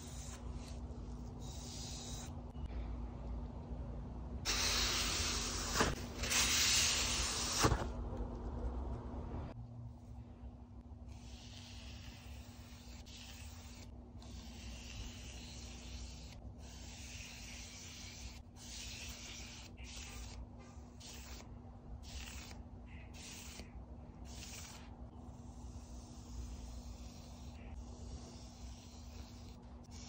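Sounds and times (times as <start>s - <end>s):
steady low hum: 0.0s - 6.3s, 6.9s - 30.0s.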